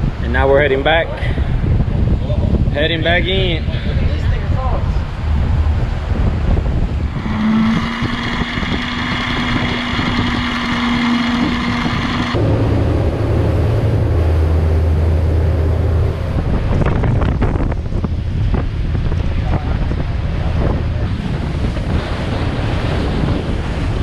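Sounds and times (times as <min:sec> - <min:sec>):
wind buffeting microphone: 0:00.0 - 0:24.0
outboard engines running: 0:00.8 - 0:24.0.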